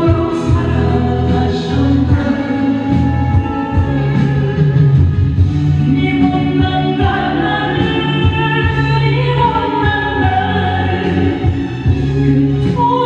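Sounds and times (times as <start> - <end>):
musical accompaniment: 0.0 - 13.0
woman singing into microphone: 0.0 - 13.0.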